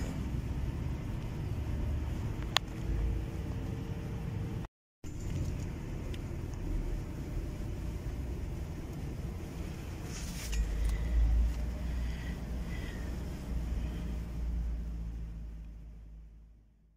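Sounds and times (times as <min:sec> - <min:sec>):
low rumble: 0:00.0 - 0:16.9.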